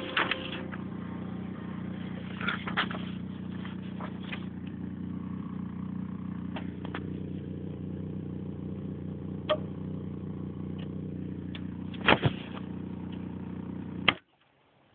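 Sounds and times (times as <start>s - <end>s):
electrical buzz and hum: 0.0s - 14.2s.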